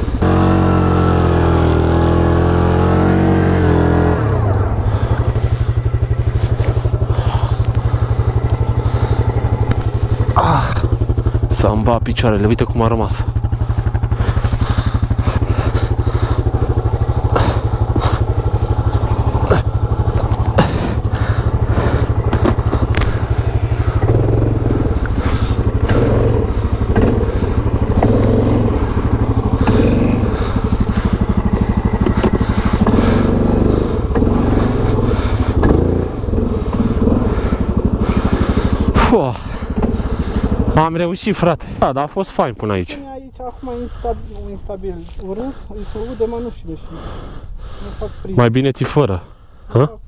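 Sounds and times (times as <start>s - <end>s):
snow and branches scraping machine: 0.0s - 48.5s
quad engine pulling hard: 0.0s - 50.0s.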